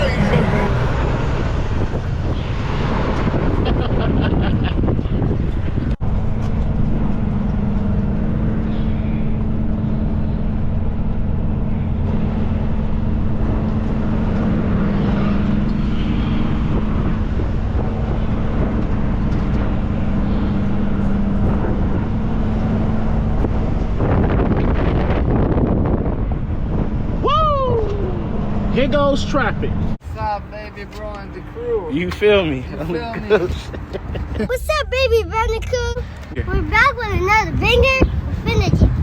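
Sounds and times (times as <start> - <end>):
road noise: 0.0 - 39.0
truck engine hum: 0.0 - 39.0.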